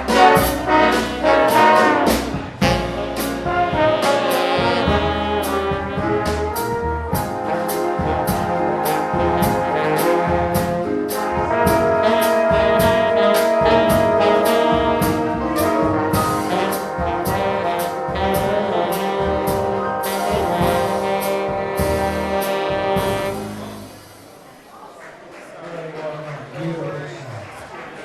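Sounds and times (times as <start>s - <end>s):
brass section holding chords: 0.0s - 24.1s
big band playing swing: 0.0s - 24.7s.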